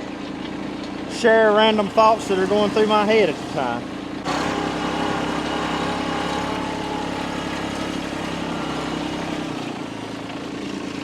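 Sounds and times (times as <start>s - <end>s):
engine idling: 0.6s - 11.0s.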